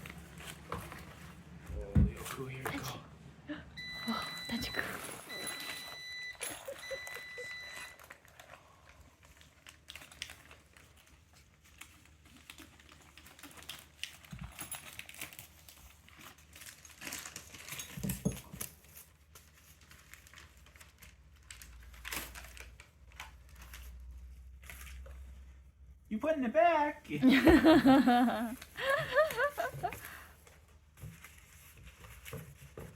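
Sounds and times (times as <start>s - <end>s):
plastic and paper crinkling: 0.0s - 3.0s, 6.7s - 25.8s, 28.4s - 32.9s.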